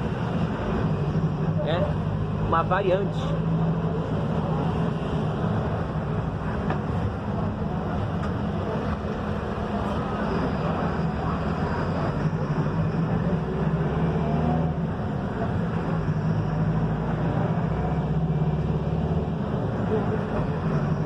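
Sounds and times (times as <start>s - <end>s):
bus diesel engine running: 0.0s - 21.0s
road rumble: 0.0s - 21.0s.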